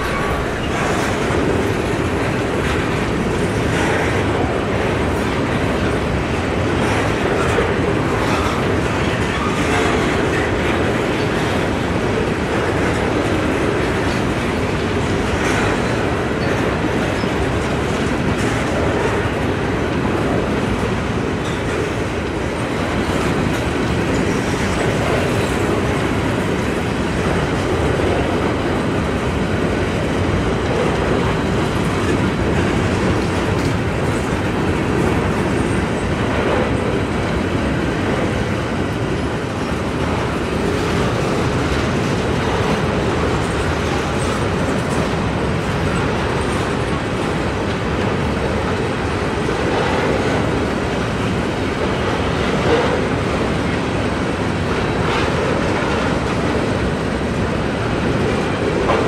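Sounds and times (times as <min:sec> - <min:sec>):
freight train rolling past: 0:00.0 - 0:59.0
wheels clicking at rail joints: 0:00.0 - 0:59.0.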